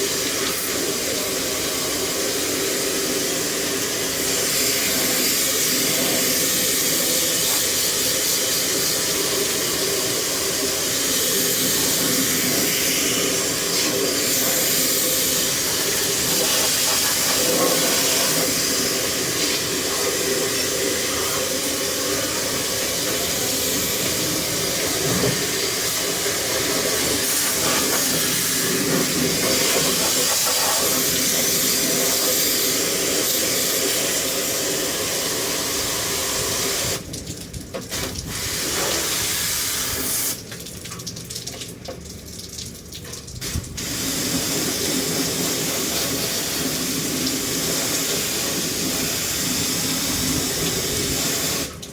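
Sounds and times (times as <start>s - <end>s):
pressure washer spraying water: 0.0s - 37.0s, 37.9s - 40.4s, 43.4s - 51.8s.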